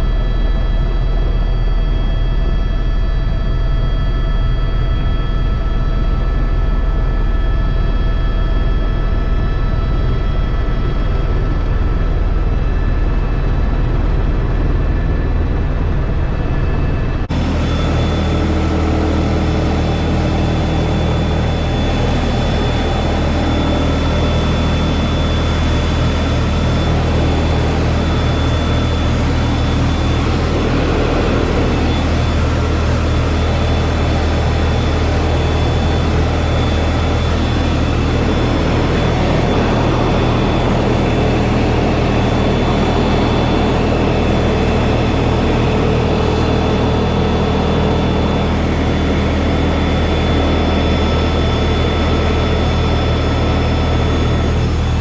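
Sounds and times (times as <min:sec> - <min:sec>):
helicopter engine and rotor droning: 0:00.0 - 0:55.0.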